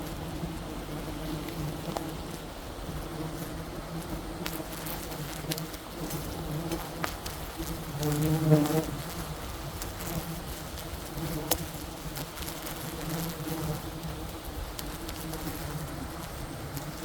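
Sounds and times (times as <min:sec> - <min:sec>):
bee swarm buzzing: 0:00.0 - 0:17.0
single bee buzzing close by: 0:00.0 - 0:17.0.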